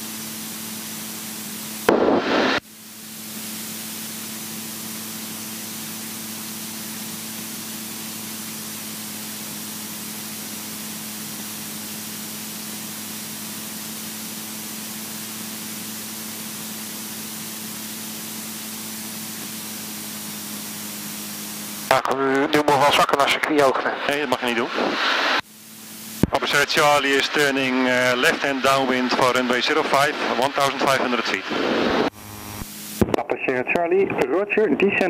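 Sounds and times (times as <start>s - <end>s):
aircraft cockpit hiss: 0.0s - 35.0s
low steady hum: 0.0s - 35.0s.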